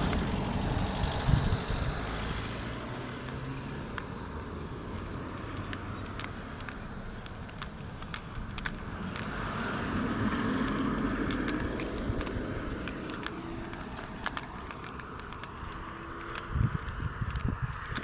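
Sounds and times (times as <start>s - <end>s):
car passing: 0.0s - 18.0s.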